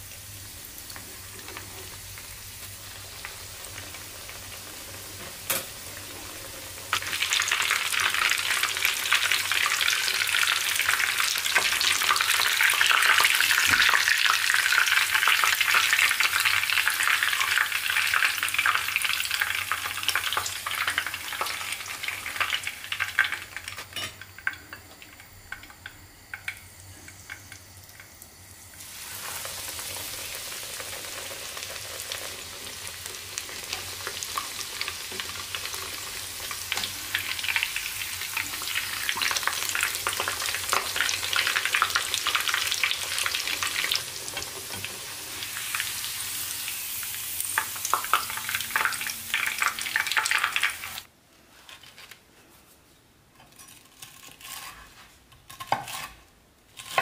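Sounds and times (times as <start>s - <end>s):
meat sizzling in hot oil: 0.0s - 51.1s.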